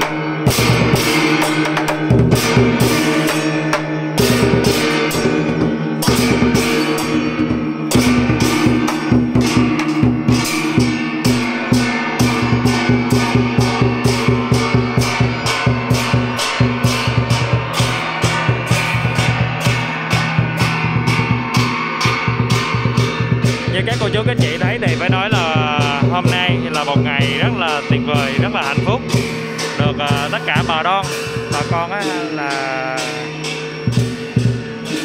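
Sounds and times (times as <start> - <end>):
gongs struck with beaters: 0.0 - 35.0
large drum beating: 0.0 - 35.0.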